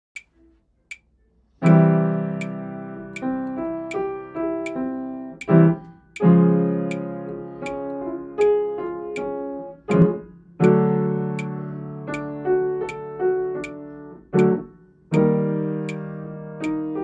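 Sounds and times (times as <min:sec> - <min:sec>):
metronome clicking: 0:00.2 - 0:17.0
upright piano chords: 0:01.6 - 0:17.0.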